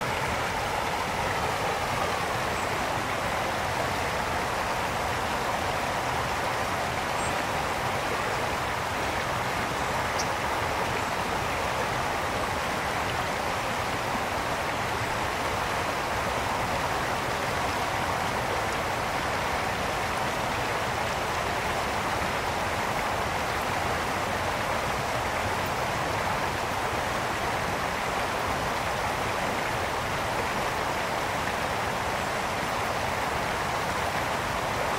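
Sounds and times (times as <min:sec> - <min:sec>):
brook flowing over stones: 0:00.0 - 0:34.9.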